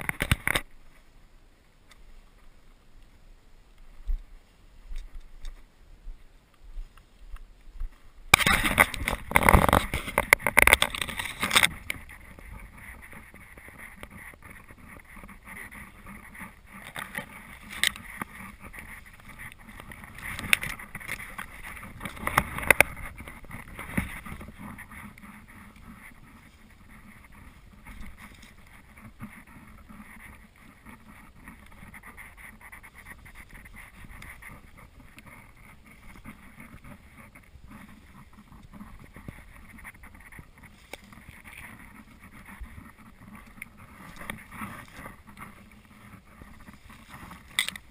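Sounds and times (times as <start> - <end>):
twigs crackling and snapping: 0.0 - 0.7, 7.4 - 47.9
footsteps through dry grass: 3.9 - 47.9.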